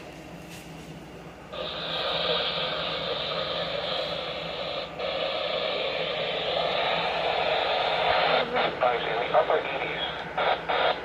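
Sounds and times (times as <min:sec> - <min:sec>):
radio static hiss: 0:01.5 - 0:11.0.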